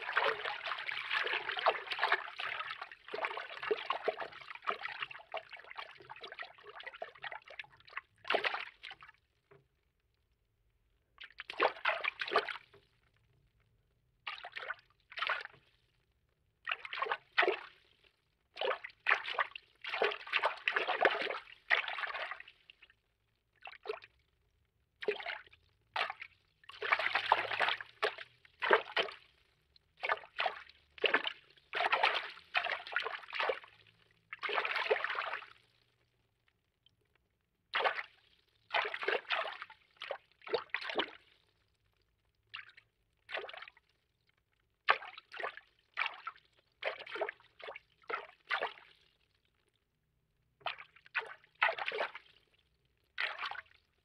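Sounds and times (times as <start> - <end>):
water sloshing and swishing: 0.0 - 9.7, 11.2 - 13.4, 14.3 - 15.8, 16.6 - 24.4, 25.0 - 36.1, 37.8 - 49.7, 50.6 - 54.0.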